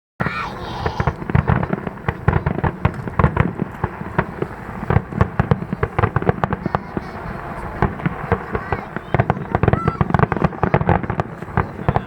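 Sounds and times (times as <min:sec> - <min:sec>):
deep fireworks booms: 0:00.2 - 0:12.0
fireworks bursts and crackling: 0:00.2 - 0:12.0.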